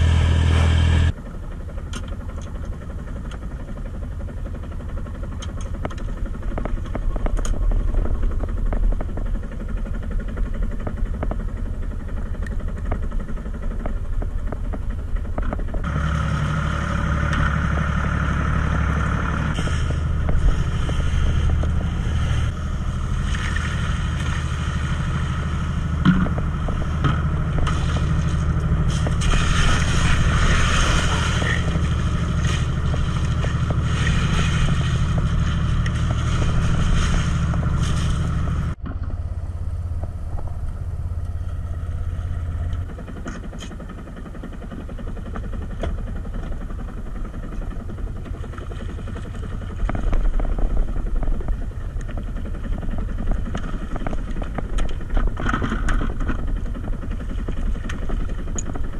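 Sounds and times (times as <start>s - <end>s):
boat engine running: 0.0s - 58.9s.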